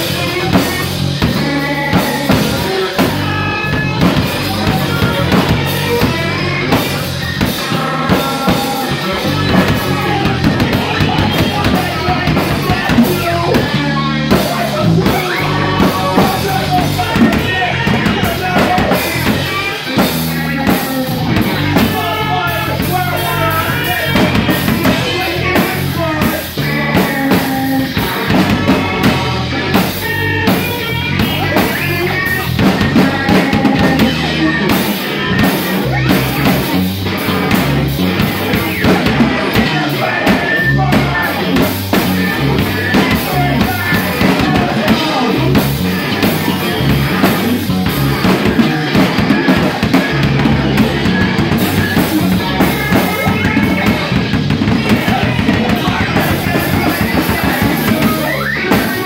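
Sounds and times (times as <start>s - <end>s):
live rock band music: 0.0s - 59.0s
low bass line: 0.0s - 59.0s.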